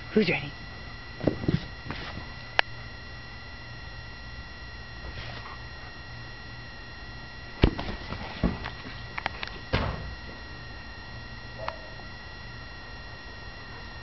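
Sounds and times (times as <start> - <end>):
faint steady high tone: 0.0 - 14.0.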